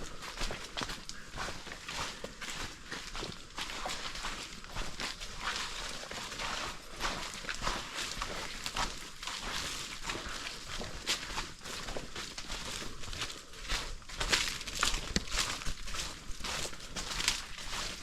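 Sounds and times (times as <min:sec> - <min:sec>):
footsteps on muddy trail: 0:00.0 - 0:18.0.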